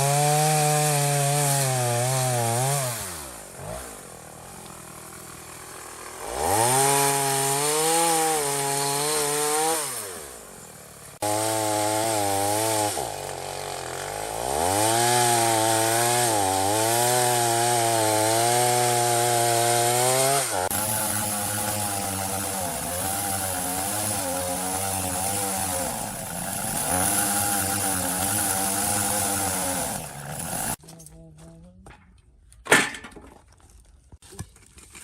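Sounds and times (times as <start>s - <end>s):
chainsaw revving and cutting: 0.0s - 30.8s.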